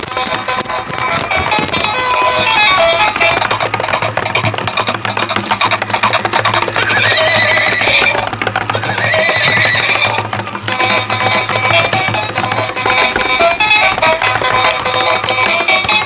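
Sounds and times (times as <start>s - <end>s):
toy playing electronic tune: 0.0s - 8.2s, 8.8s - 16.0s.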